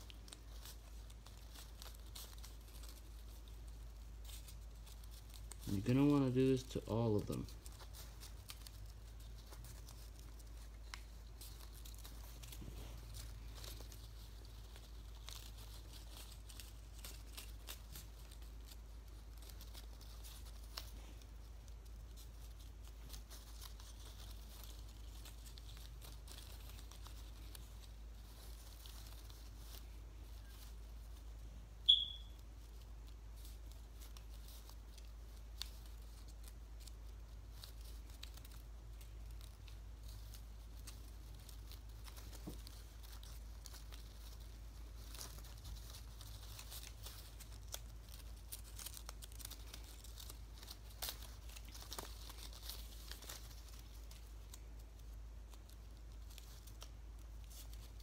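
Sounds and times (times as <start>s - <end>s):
paper rustling and crinkling: 0.0s - 58.0s.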